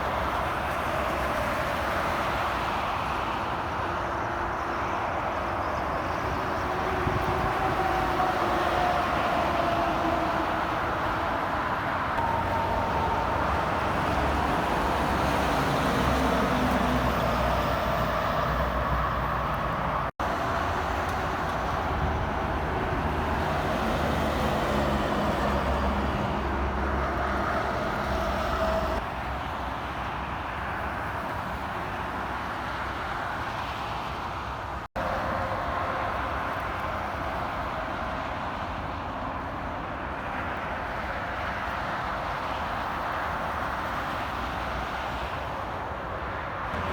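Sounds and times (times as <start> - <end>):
highway traffic passing: 0.0 - 46.9.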